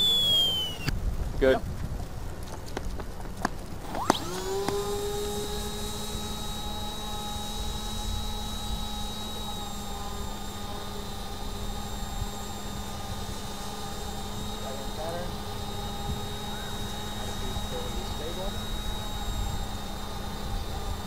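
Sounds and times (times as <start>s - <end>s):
propeller motor whining: 0.0s - 21.0s
wind rumble: 0.0s - 21.0s.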